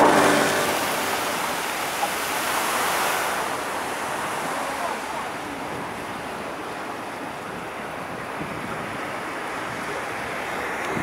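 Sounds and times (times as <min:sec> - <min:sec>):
water splashing onto lake: 0:00.0 - 0:11.0.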